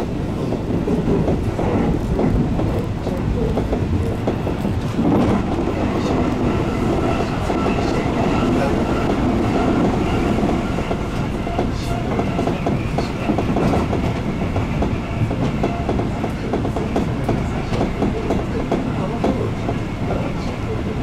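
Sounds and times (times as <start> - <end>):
train wheels clattering: 0.0 - 20.6
train rumble: 0.0 - 21.0.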